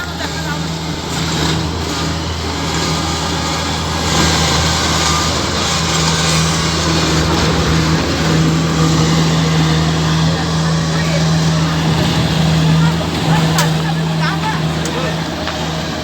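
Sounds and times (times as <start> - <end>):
harvesting machine engine hum: 0.0 - 16.0.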